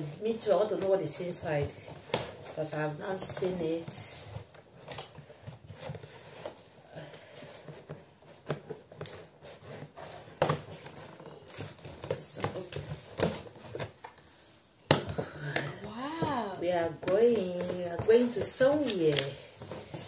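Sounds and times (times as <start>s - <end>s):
packaging rustling: 1.7s - 14.4s, 15.8s - 20.0s.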